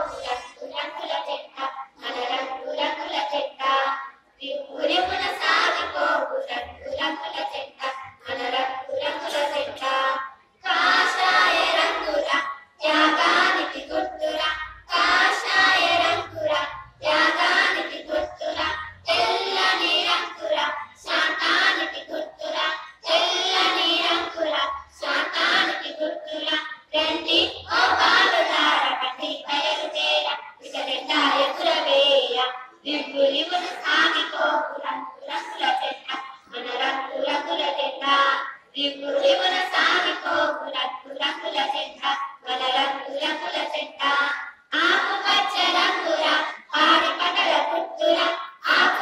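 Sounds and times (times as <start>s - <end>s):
girls singing through loudspeaker: 0.0s - 49.0s.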